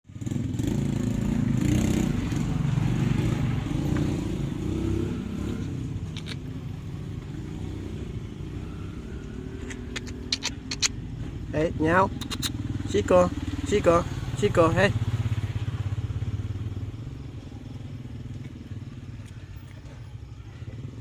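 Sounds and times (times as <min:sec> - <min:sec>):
vehicle engine running: 0:00.1 - 0:21.0.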